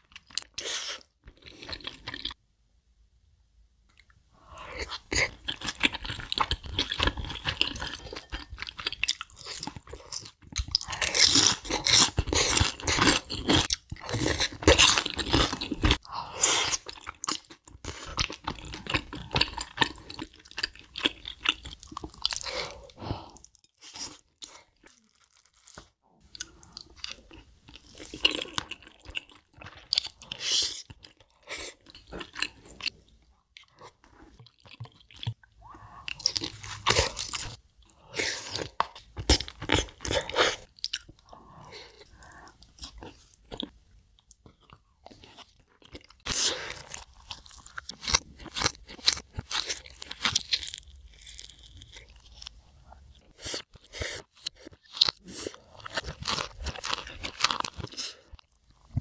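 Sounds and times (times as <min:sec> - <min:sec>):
crunching and chewing fried chicken: 0:00.0 - 0:02.4, 0:04.8 - 0:59.0.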